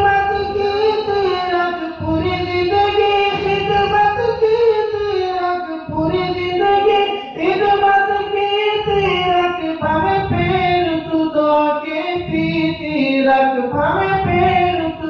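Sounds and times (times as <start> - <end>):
man chanting a poem melodically: 0.0 - 15.0.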